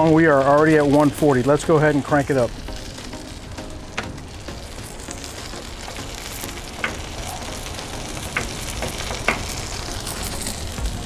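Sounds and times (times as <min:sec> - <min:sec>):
steak sizzling on griddle: 0:00.0 - 0:11.0.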